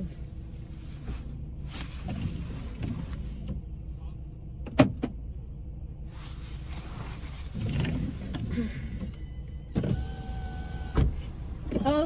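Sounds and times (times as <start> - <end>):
car interior low rumble: 0.0 - 12.0.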